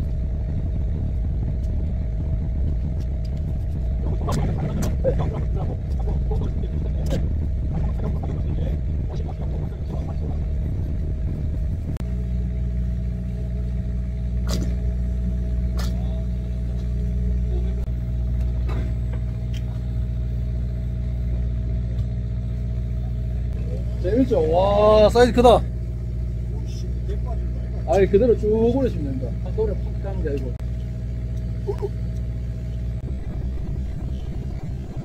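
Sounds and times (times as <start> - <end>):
boat machinery drone: 0.0 - 35.0.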